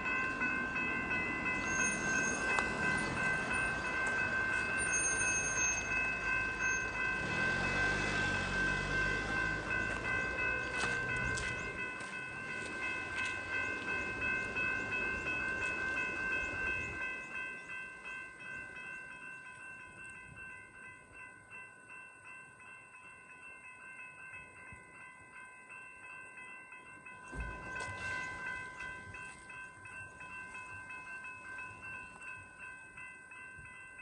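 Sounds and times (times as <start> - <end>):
level crossing bells ringing: 0.0 - 34.0
train rumble: 0.0 - 34.0.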